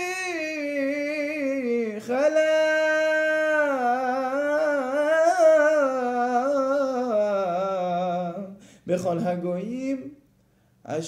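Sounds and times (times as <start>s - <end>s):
man chanting: 0.0s - 10.2s.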